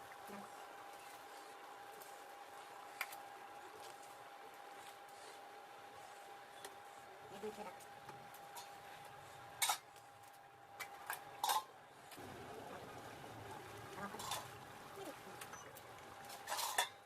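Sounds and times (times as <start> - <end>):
steady thin hum: 0.0 - 17.0.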